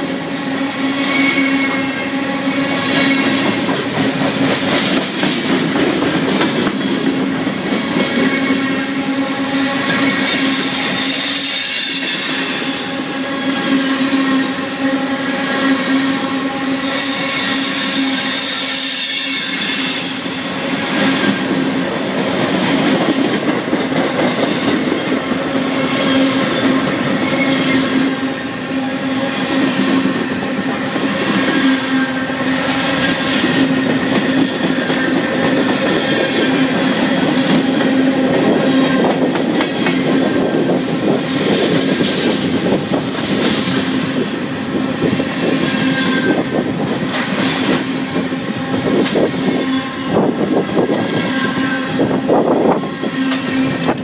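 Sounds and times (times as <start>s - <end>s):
steel wheels on rails: 0.0s - 54.0s.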